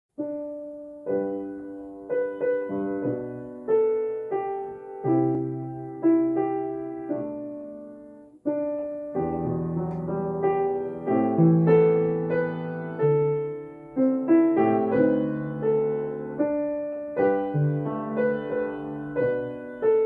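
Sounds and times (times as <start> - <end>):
slow jazz piano chords: 0.2 - 20.0.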